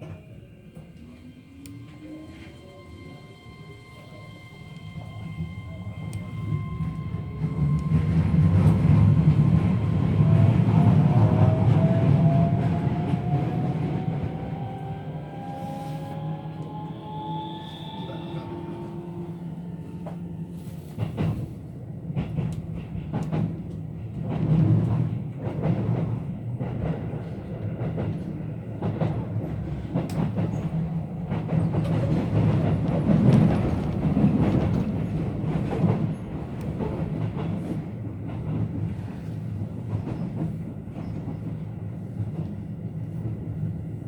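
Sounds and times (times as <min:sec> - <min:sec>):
rail joint clicks: 0:04.7 - 0:17.2, 0:17.9 - 0:43.9.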